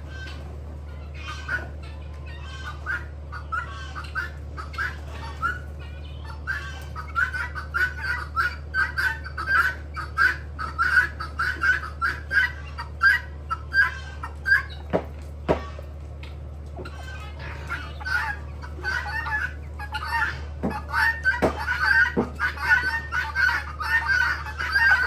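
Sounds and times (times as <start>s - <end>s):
chickens clucking: 0.0s - 25.0s
steady low hum: 0.0s - 25.0s.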